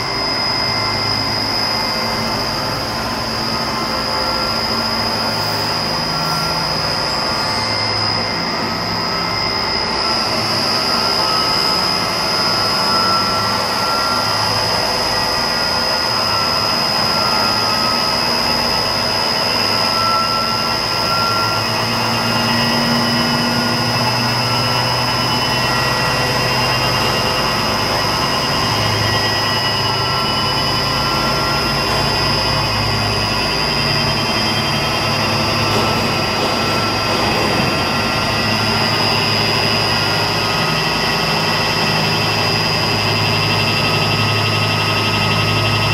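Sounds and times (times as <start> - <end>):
grinding machine running with whine: 0.0 - 45.9.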